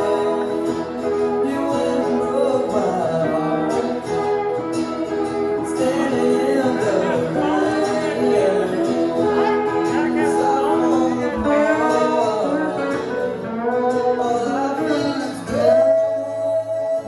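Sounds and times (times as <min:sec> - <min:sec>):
guitar: 0:00.0 - 0:17.0
man singing: 0:00.0 - 0:17.0.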